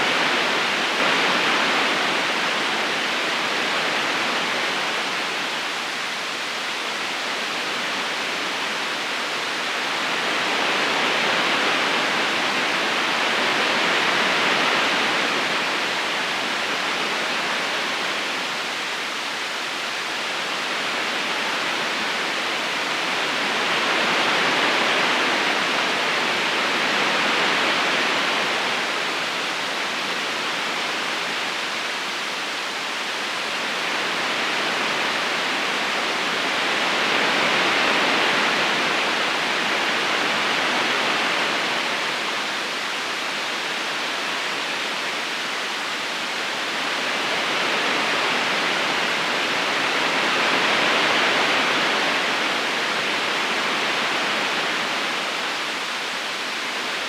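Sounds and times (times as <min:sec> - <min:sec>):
river current rushing: 0:00.0 - 0:57.0.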